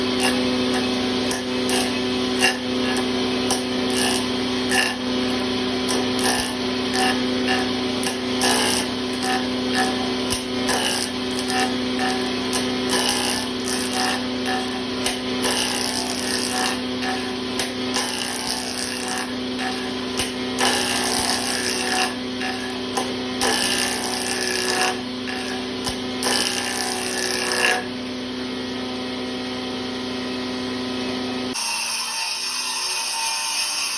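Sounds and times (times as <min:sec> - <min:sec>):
tool scraping wood: 0:00.0 - 0:28.1
power tool motor running: 0:00.0 - 0:33.9.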